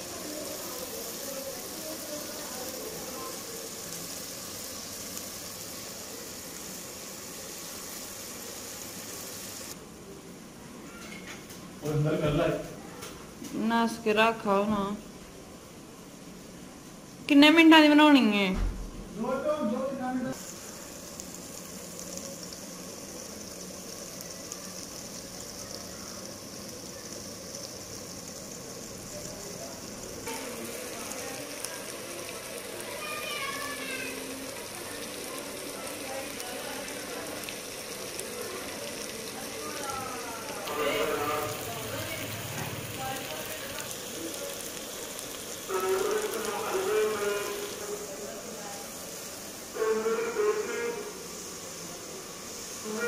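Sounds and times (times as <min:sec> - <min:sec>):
vegetables sizzling in hot oil: 0:00.0 - 0:10.0, 0:20.2 - 0:53.0.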